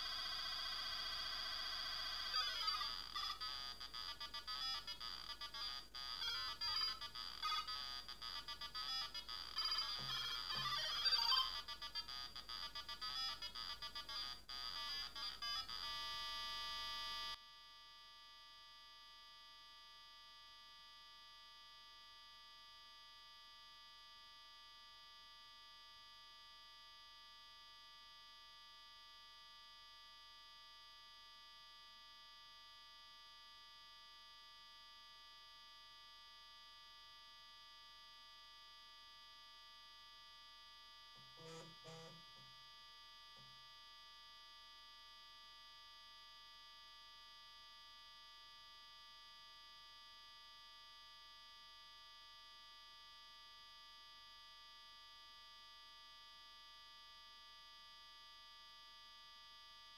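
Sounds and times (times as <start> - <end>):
faint electrical hum and whine: 0.0 - 59.9.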